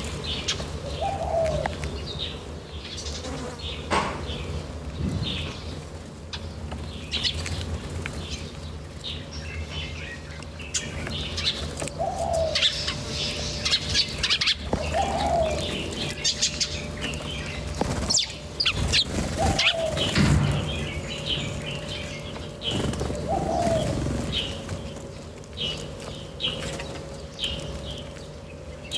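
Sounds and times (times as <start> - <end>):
small birds chirping: 0.0 - 28.9
steady low hum: 0.0 - 28.9.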